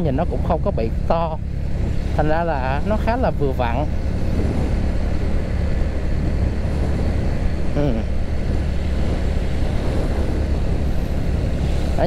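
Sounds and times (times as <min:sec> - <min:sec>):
motorcycle engine running: 0:00.0 - 0:11.9
wind on microphone: 0:00.0 - 0:12.0.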